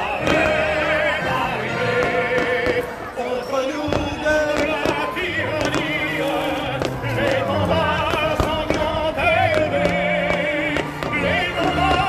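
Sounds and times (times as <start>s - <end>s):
operatic singing voice: 0.0s - 12.0s.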